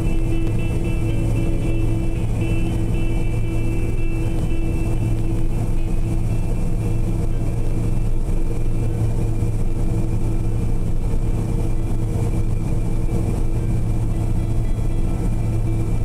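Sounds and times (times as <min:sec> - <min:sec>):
combine harvester engine drone: 0:00.0 - 0:16.0
faint high whine: 0:00.0 - 0:16.0.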